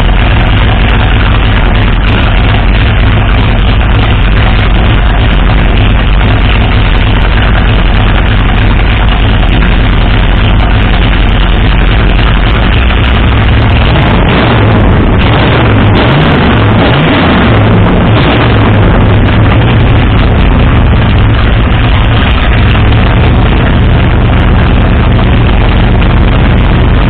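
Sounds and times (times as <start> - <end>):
lumpy engine idling: 0.0 - 27.0.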